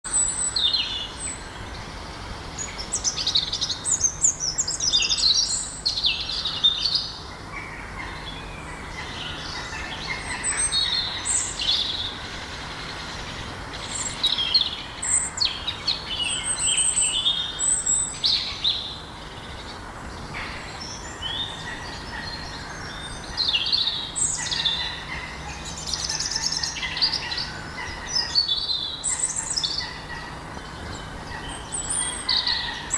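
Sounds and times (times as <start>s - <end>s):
songbirds chirping: 0.0s - 32.9s.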